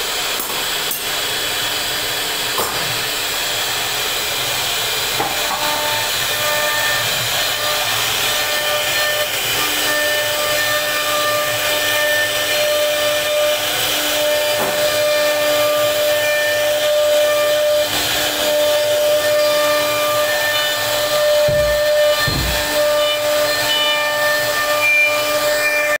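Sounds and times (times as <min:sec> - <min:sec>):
router bit cutting wood hiss: 0:00.0 - 0:26.0
router spindle high whine: 0:00.0 - 0:26.0.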